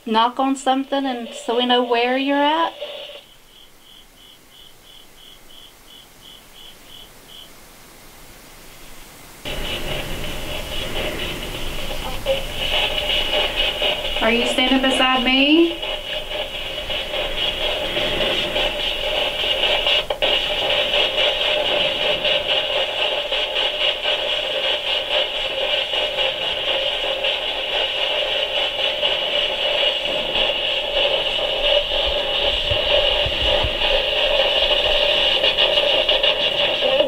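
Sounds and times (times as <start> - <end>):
radio static hiss skipping stations: 0.0 - 37.0.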